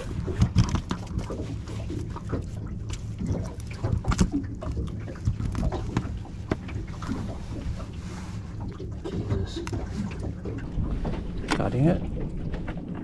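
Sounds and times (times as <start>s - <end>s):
clicks and knocks of handling fish: 0.0s - 13.0s
low hum: 0.0s - 13.0s.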